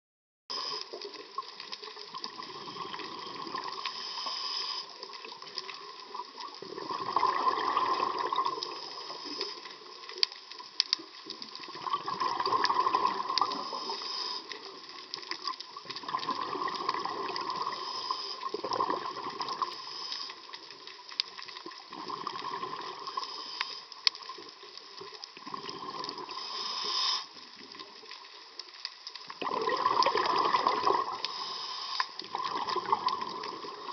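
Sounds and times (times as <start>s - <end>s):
water sloshing and bubbling: 0.5s - 33.9s.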